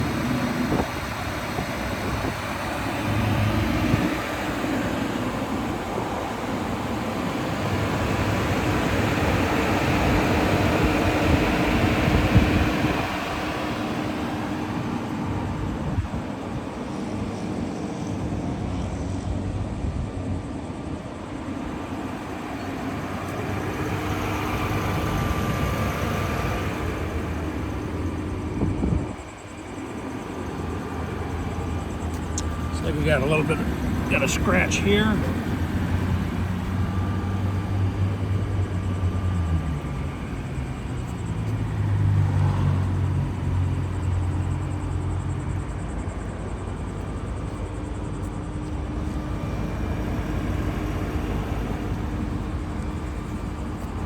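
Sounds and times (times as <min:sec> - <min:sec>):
cars passing by: 0:00.0 - 0:54.0.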